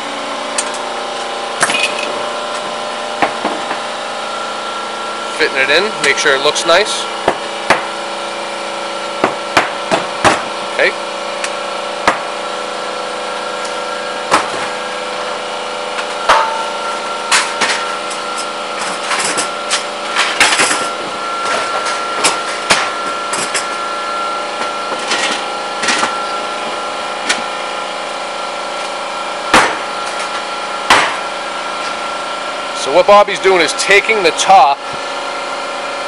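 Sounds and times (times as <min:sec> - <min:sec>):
steady background hum: 0:00.0 - 0:36.0.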